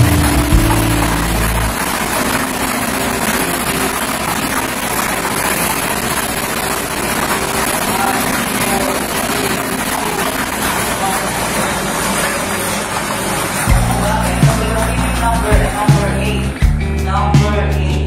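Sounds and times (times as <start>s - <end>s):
background music: 0.0s - 12.3s, 13.6s - 18.0s
lottery machine blower running: 0.0s - 16.8s.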